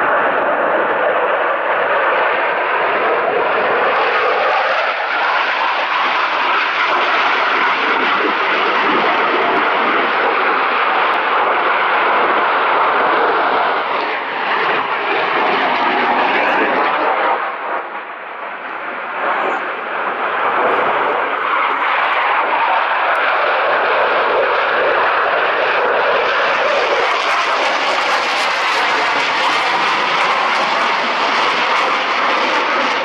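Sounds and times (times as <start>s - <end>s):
jet aircraft flying past: 0.0s - 33.0s.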